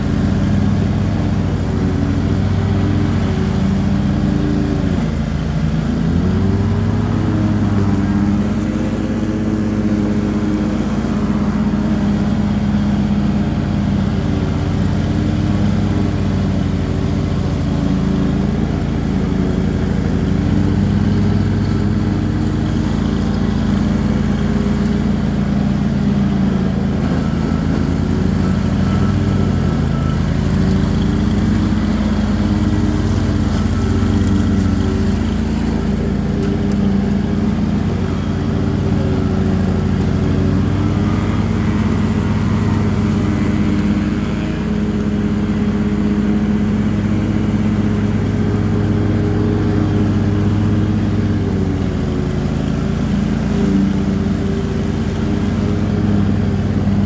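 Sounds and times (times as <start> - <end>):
lawn tractor engine mowing: 0.0 - 57.0.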